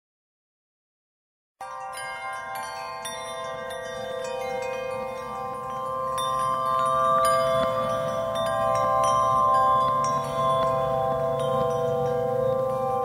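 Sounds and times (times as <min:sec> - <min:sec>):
chimes ringing: 0:01.6 - 0:13.0.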